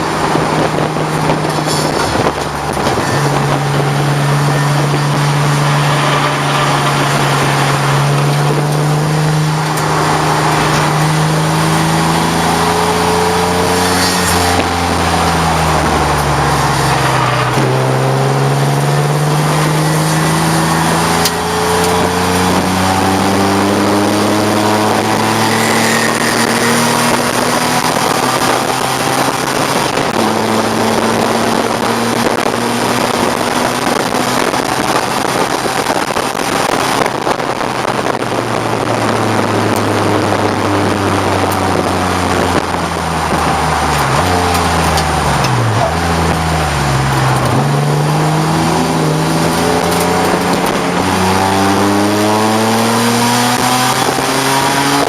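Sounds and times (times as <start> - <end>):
race car engine revving: 0.0 - 55.0
wind and road noise: 0.0 - 55.0.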